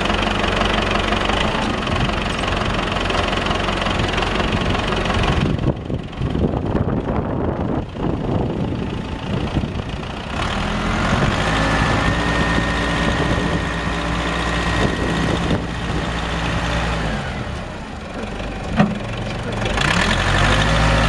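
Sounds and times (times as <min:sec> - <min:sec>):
backhoe engine whining: 0:00.0 - 0:21.0.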